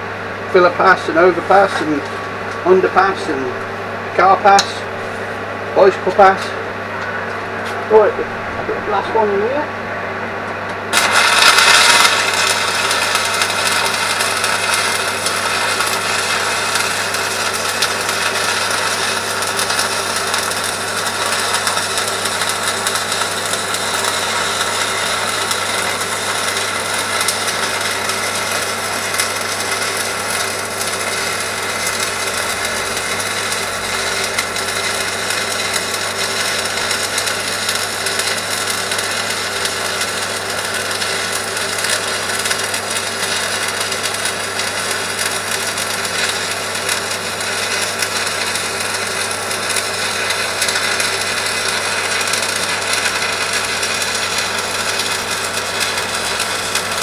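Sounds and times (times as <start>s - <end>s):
welding arc burning: 0.0s - 9.7s, 10.8s - 57.0s.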